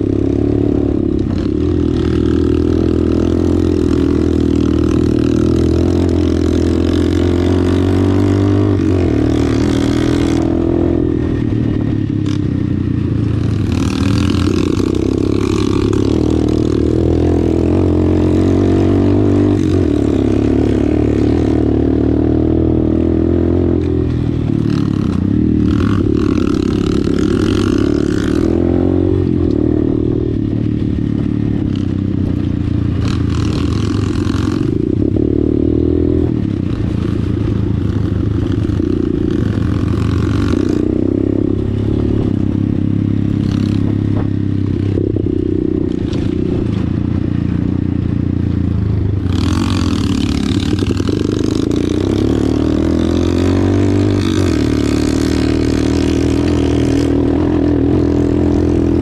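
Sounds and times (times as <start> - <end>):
dirt bike engine revving: 0.0 - 47.8, 49.0 - 59.0.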